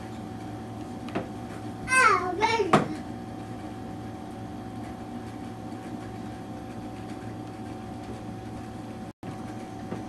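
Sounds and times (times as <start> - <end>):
faint constant whine: 0.0 - 10.0.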